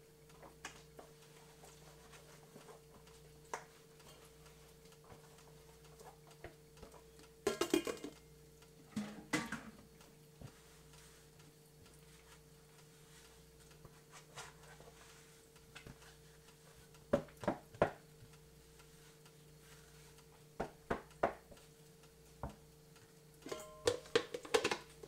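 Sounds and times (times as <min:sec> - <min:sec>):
steady hum: 0:00.0 - 0:24.2.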